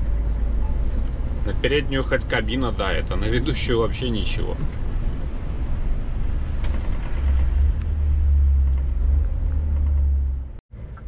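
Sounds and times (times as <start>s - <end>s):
truck engine from inside cab: 0.0s - 11.0s.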